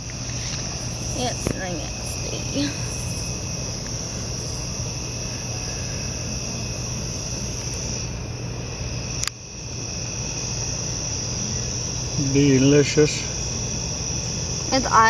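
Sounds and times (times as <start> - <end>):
insects singing: 0.0 - 15.0.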